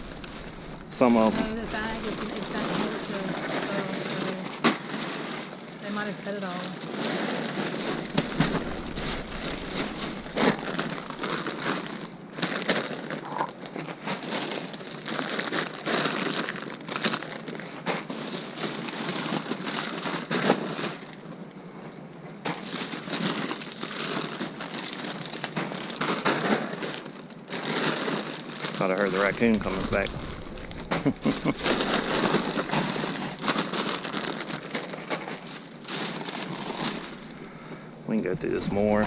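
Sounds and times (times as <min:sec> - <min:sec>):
plastic bags crinkling: 0:00.0 - 0:21.4, 0:22.4 - 0:39.0.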